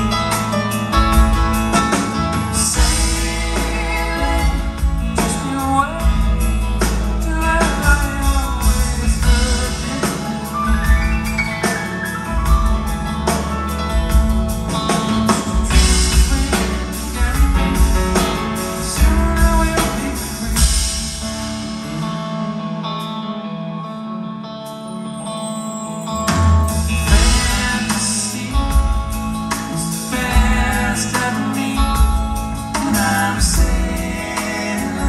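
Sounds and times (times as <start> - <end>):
drum kit: 0.0 - 23.1, 26.2 - 35.0
live rock band playing: 0.0 - 35.0.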